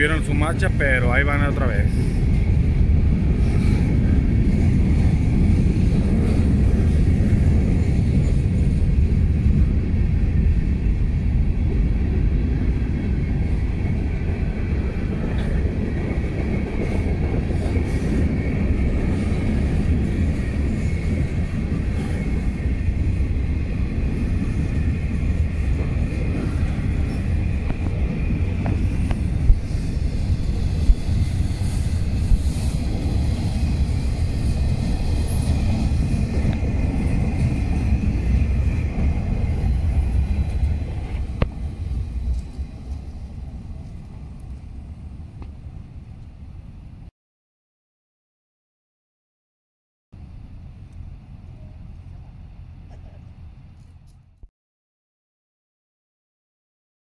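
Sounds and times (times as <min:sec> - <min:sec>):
train wheels rumbling on rail: 0:00.0 - 0:47.1.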